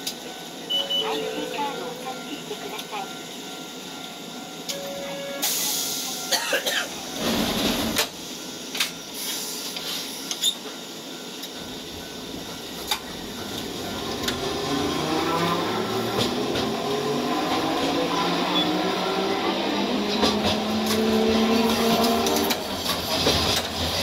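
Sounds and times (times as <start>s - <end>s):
tram motors whining: 0.0s - 24.0s.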